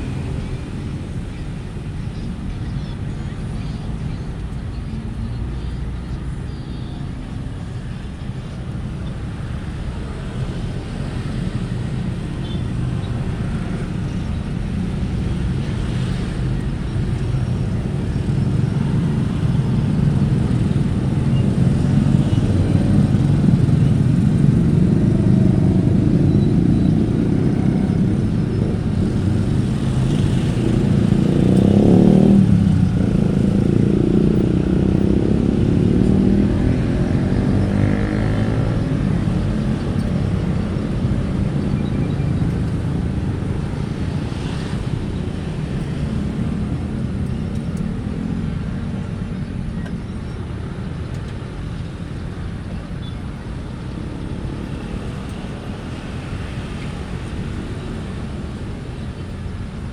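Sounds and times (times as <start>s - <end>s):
motorcycles: 0.0s - 59.9s
road traffic rumble: 0.0s - 59.9s.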